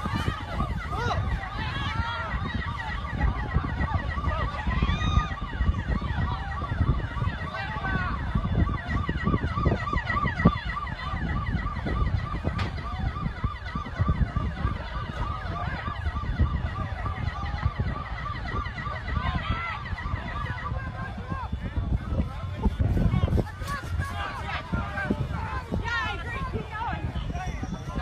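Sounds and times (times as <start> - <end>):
siren yelping: 0.0 - 28.0.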